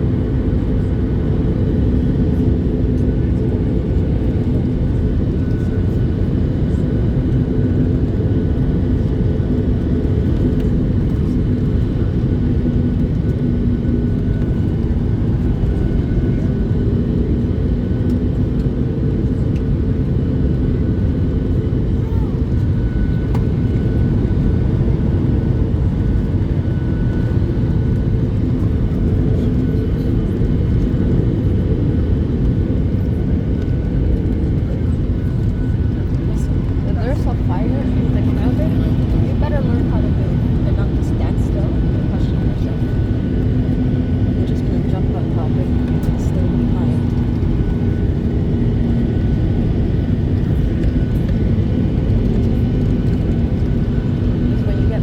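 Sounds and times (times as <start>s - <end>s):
jet engine and airflow rush: 0.0s - 55.0s.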